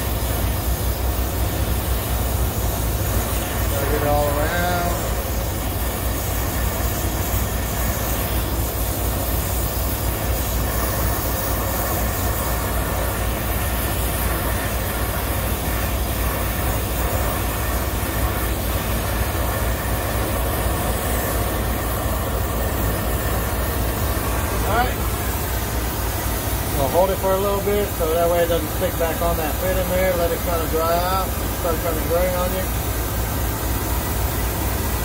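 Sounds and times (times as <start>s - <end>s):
torch flame hissing: 0.0s - 35.0s.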